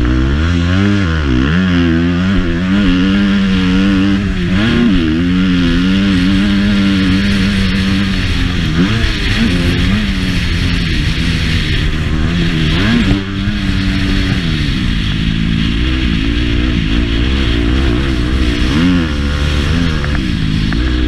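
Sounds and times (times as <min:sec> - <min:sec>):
motocross bike engine: 0:00.0 - 0:21.0
wind noise: 0:00.0 - 0:21.0.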